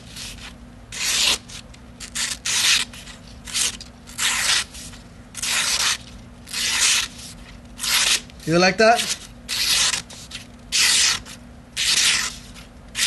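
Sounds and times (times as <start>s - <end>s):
knife slicing paper: 0.1s - 8.3s, 8.9s - 13.0s.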